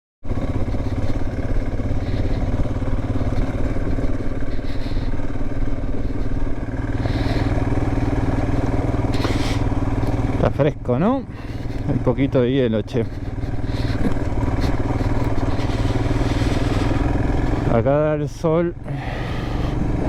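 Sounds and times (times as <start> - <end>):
motorcycle engine running: 0.2 - 20.0.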